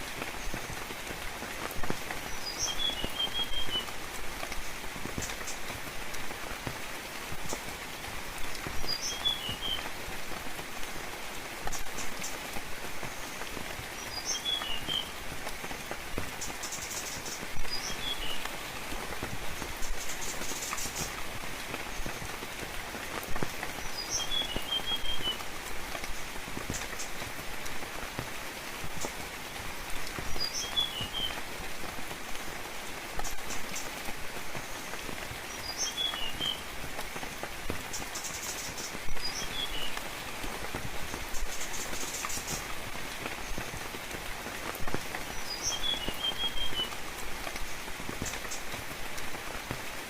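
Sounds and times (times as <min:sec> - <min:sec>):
rain on leaves: 0:00.0 - 0:50.0.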